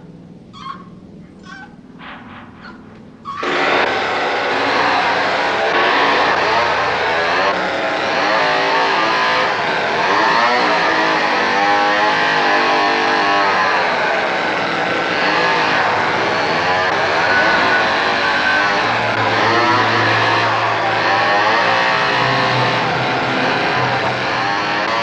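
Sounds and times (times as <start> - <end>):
chainsaw revving: 3.4 - 25.0.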